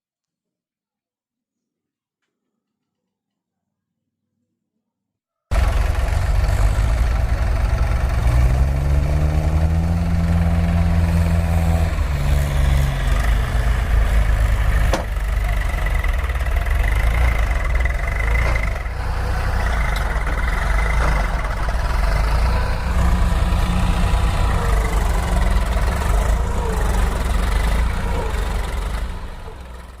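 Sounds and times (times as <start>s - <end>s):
engine running and revving: 5.5s - 30.0s.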